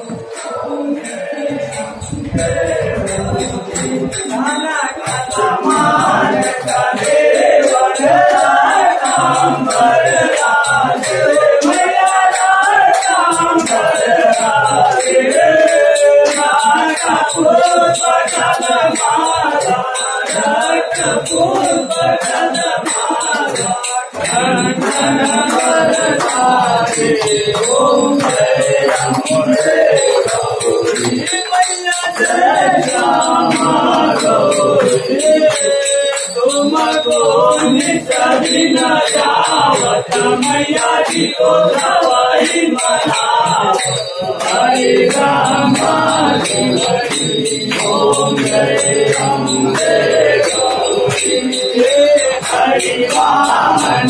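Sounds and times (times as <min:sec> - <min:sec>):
jingling hand percussion: 0:00.0 - 0:54.0
voices singing devotional song: 0:00.0 - 0:54.0.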